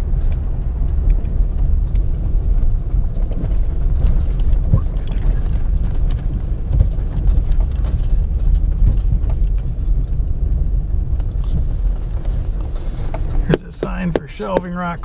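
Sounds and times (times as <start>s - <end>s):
vehicle rumbling over uneven road: 0.0s - 15.0s
small rattles and knocks: 0.2s - 15.0s.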